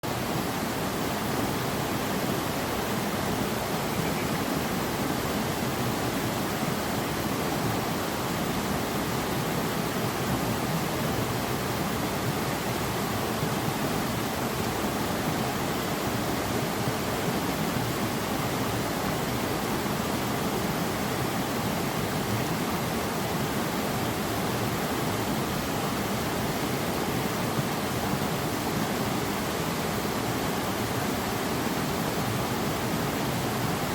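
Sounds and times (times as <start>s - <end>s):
flowing water: 0.0s - 33.9s.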